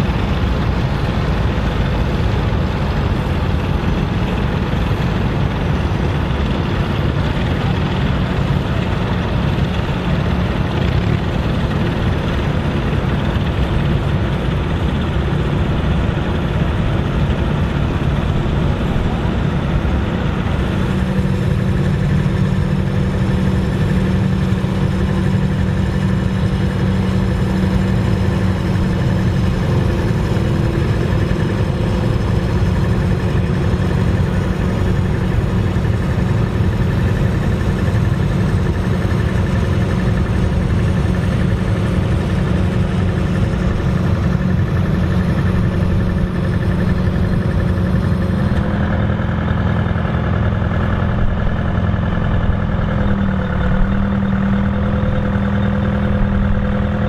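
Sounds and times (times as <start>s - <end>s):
tractor engines droning: 0.0s - 57.0s.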